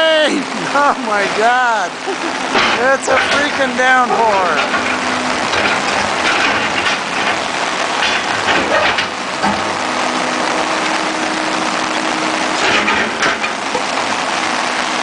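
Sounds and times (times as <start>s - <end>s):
engine idling: 0.0s - 15.0s
heavy rain: 0.0s - 15.0s.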